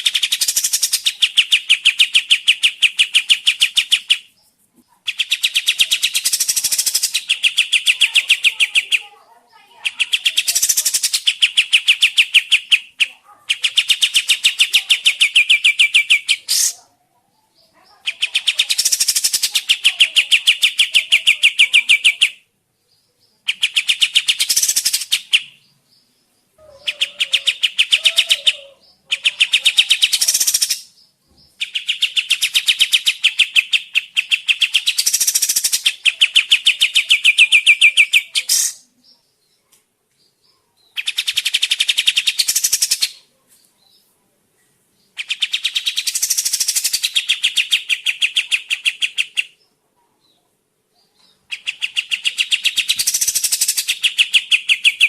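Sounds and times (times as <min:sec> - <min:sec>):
songbird chattering trills: 0:00.0 - 0:16.9, 0:17.5 - 0:39.6, 0:40.3 - 0:44.1, 0:45.0 - 0:49.8, 0:51.0 - 0:55.0.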